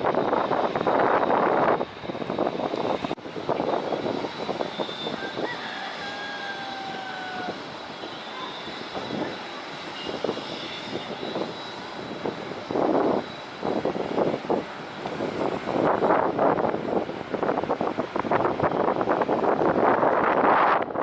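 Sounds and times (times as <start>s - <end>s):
jet engines running: 0.0s - 21.0s
wind buffeting microphone: 0.0s - 21.0s.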